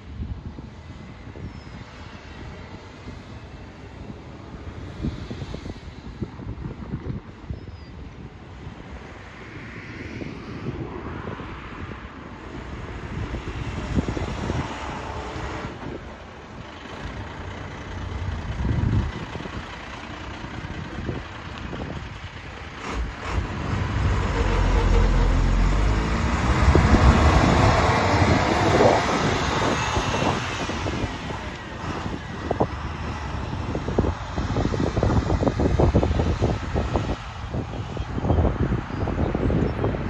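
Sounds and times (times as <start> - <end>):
road noise: 0.0 - 40.0
bus diesel engine: 0.1 - 6.8, 12.1 - 40.0.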